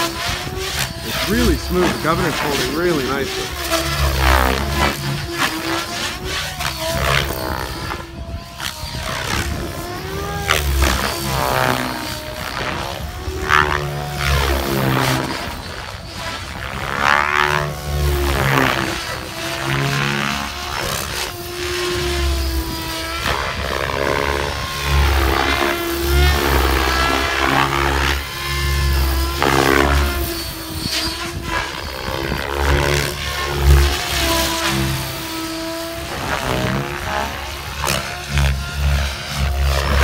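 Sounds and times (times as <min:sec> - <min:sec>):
helicopter rotor blades whooshing: 0:00.0 - 0:40.0
motor whine: 0:00.0 - 0:40.0.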